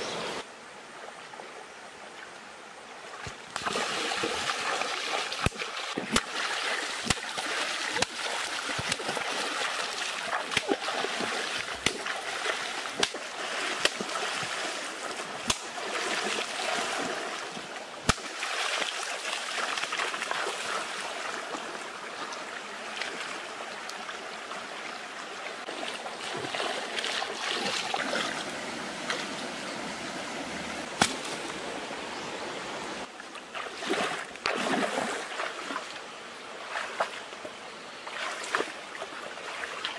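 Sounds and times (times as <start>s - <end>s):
running water rushing: 0.0s - 39.9s
feet splashing in stream: 3.0s - 32.2s, 33.0s - 39.9s.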